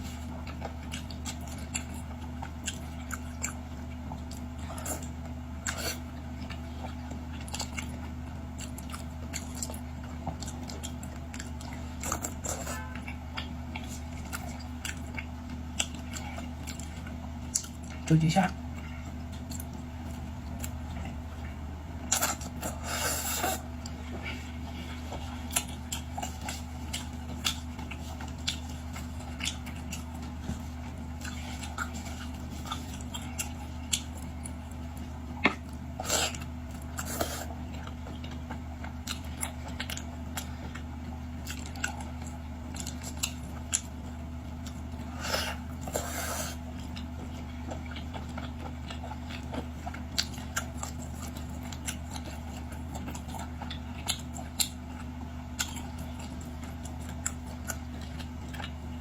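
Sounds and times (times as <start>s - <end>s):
person chewing seafood: 0.0s - 59.0s.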